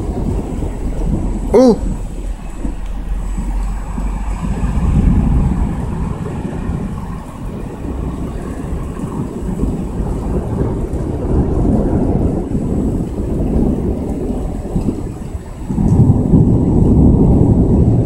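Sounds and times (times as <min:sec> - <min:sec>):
thunder rumbling: 0:00.0 - 0:18.0
wind buffeting microphone: 0:00.0 - 0:18.0.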